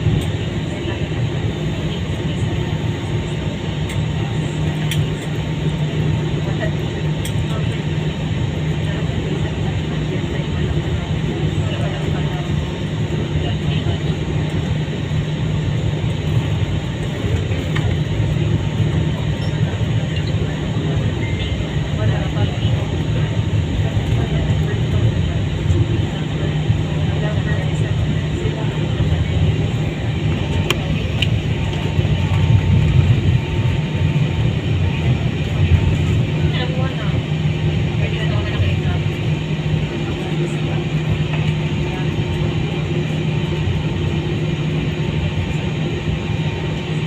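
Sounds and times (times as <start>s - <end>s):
jet engines and airflow in cabin: 0.0s - 47.0s.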